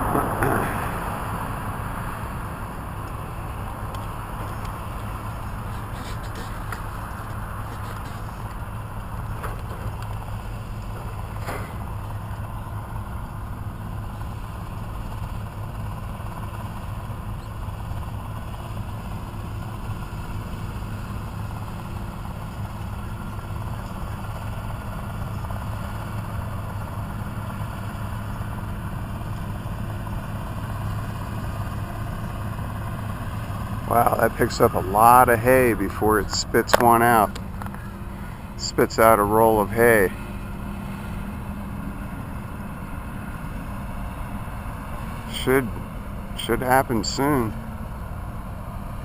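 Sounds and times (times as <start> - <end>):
hay baler running: 0.0 - 49.0
tractor engine hum: 0.0 - 49.0.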